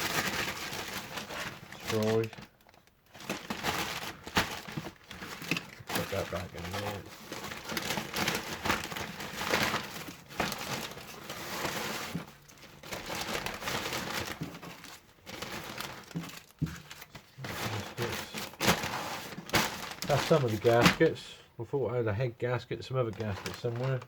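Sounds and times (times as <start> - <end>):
packaging crinkling and rustling: 0.0 - 21.2, 23.0 - 24.0.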